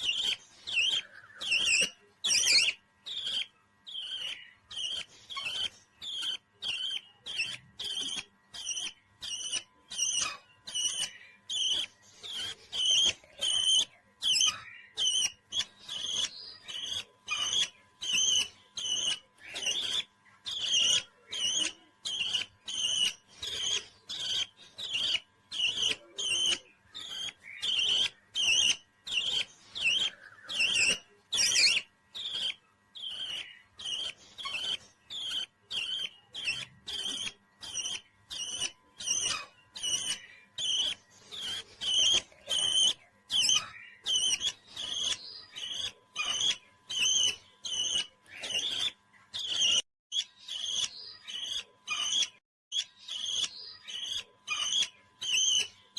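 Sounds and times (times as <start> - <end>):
parrot chirping: 0.0 - 55.9.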